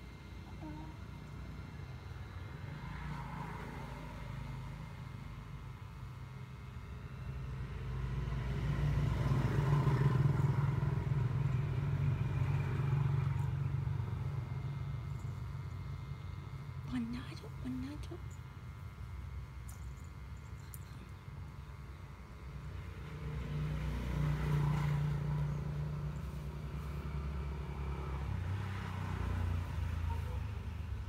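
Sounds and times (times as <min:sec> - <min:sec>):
vehicle engine rumble: 0:00.0 - 0:31.0.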